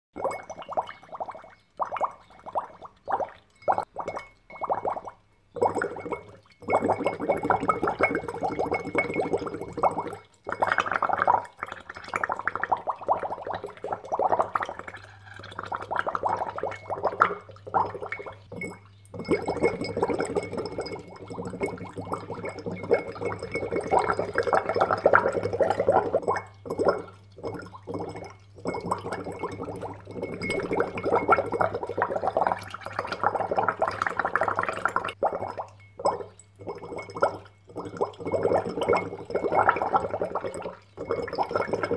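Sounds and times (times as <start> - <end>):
air bubbling in water: 0.2 - 41.9.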